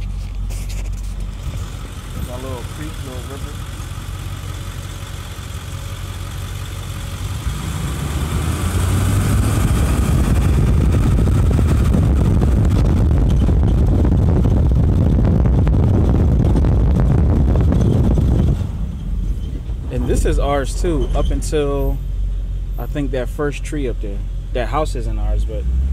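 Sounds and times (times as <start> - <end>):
road noise: 0.0 - 25.9
truck engine rumble: 0.0 - 25.9.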